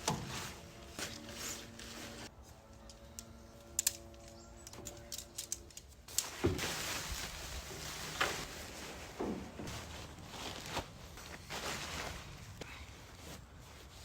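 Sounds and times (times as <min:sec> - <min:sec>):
camping gear rustling and scraping: 0:00.0 - 0:14.0.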